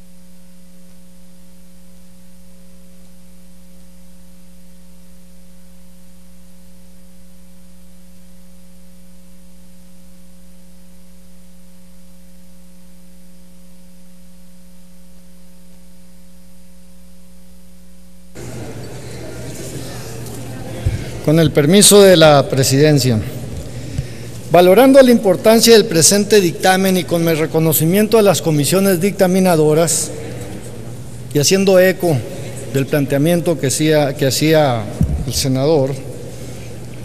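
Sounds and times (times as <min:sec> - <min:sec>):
noisy room sound: 0:00.0 - 0:37.0
steady electrical hum: 0:00.0 - 0:37.0.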